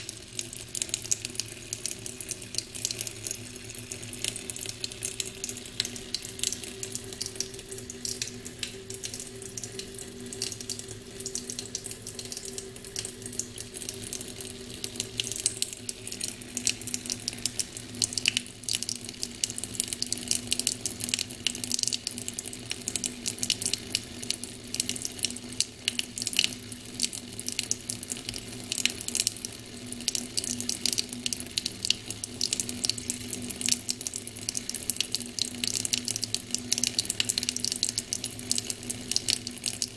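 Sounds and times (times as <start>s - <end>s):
tap water splashing into sink: 0.0s - 39.9s.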